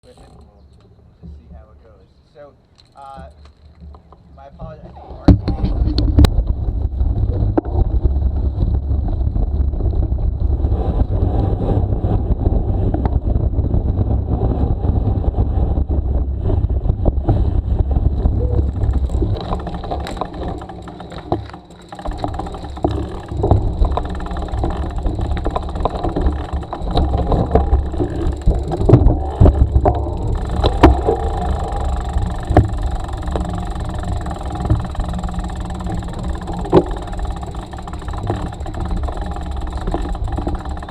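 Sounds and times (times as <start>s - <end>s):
bicycle clicks and rattles: 0.0s - 0.9s, 2.6s - 4.2s, 5.2s - 40.9s
wind buffeting microphone: 4.6s - 40.9s.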